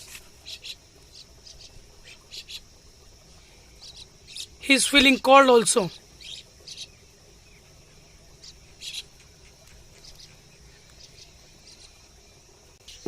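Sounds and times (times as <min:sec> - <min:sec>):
faint insect drone: 0:00.0 - 0:13.0.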